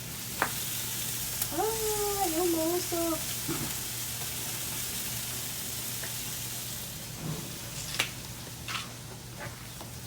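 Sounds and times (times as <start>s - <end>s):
ribs sizzling on a grill: 0.0s - 10.0s.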